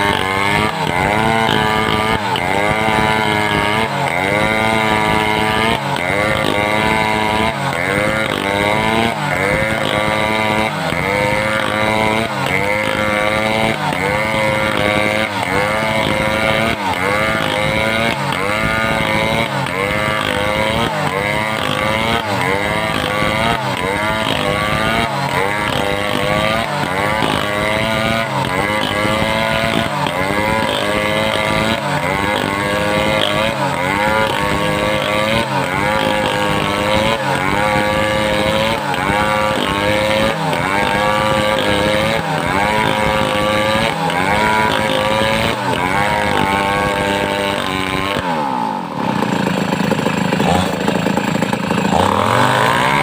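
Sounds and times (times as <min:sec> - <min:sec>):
chainsaw cutting timber: 0:00.0 - 0:53.0.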